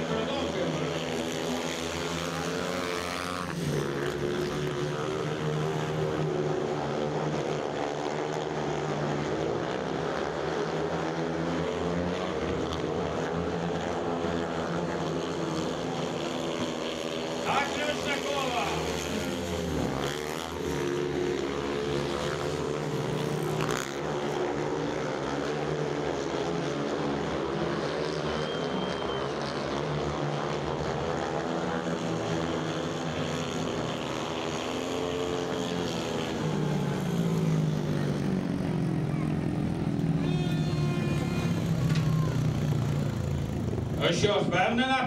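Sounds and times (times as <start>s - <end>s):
motorcycle engines revving: 0.0s - 45.0s.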